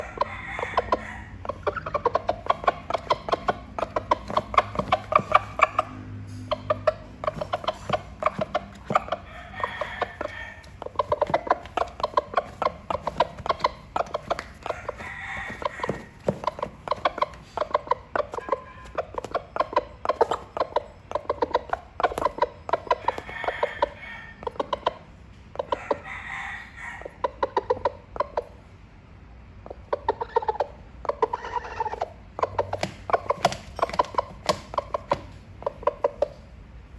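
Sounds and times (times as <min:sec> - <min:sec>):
rooster clucking rapidly: 0:00.0 - 0:28.8, 0:29.5 - 0:36.9.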